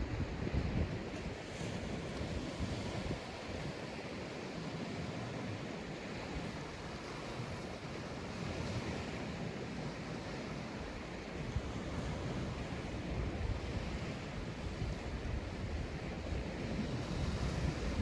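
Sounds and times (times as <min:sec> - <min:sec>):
waves breaking on beach: 0:00.0 - 0:18.0
wind rumble on microphone: 0:00.0 - 0:18.0.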